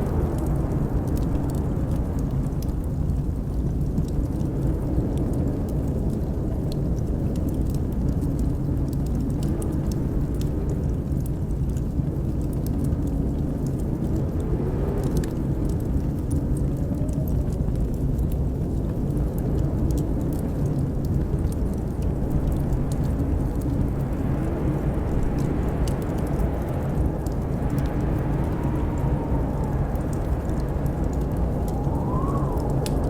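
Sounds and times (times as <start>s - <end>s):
blizzard wind howling: 0.0s - 33.0s
wood fire crackling: 0.0s - 33.0s.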